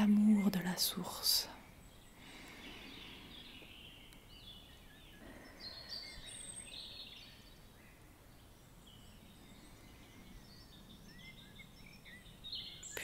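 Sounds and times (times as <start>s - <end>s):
birds chirping and whistling: 0.0s - 13.0s
soft background hiss: 0.0s - 13.0s.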